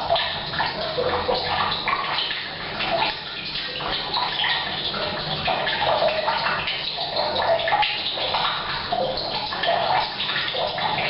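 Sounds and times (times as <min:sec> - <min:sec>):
water pouring into tank: 0:00.0 - 0:11.0.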